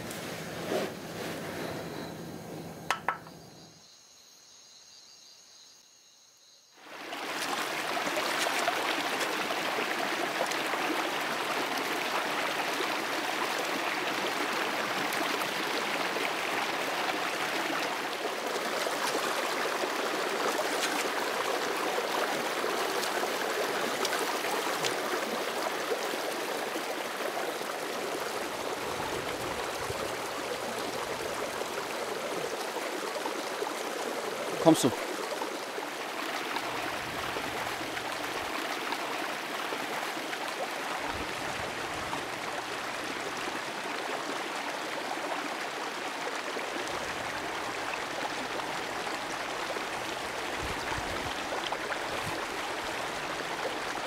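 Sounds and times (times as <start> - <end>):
stream of water flowing: 0.0 - 3.8, 6.6 - 54.0.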